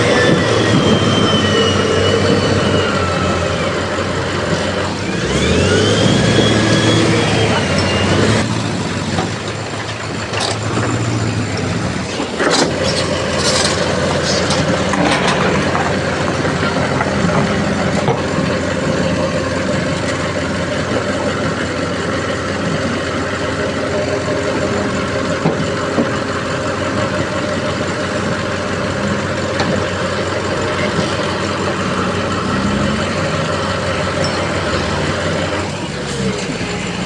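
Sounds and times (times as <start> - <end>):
heavy machinery engine running: 0.0 - 37.0.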